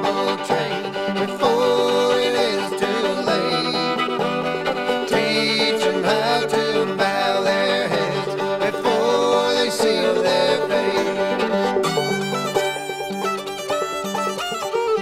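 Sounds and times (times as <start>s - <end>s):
banjo picking: 0.0s - 15.0s
fiddle playing country tune: 0.0s - 15.0s.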